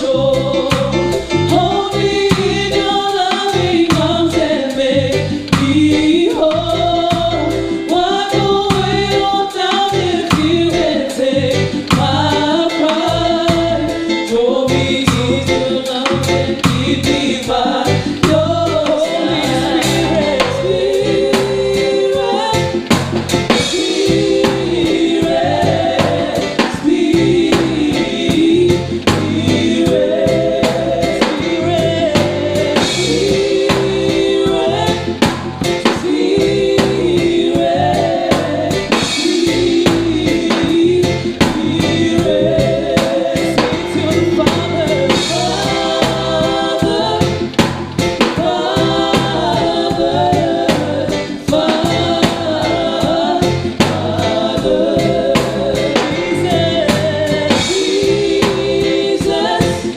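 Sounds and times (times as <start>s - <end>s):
drum kit beat: 0.0s - 59.9s
voices singing together: 0.0s - 59.9s.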